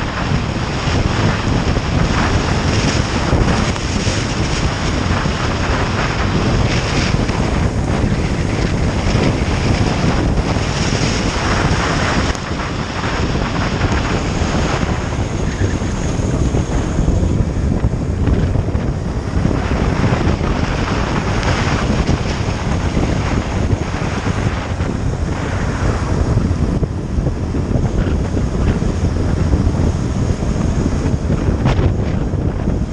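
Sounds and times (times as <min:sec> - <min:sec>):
motorcycle engine: 0:00.0 - 0:32.9
road noise: 0:00.0 - 0:32.9
wind noise on microphone: 0:00.0 - 0:32.9.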